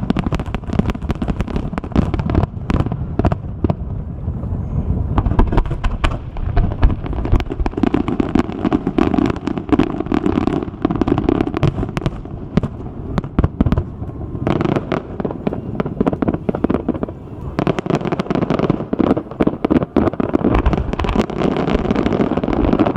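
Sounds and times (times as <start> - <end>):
fireworks bangs and crackles: 0.0 - 22.9.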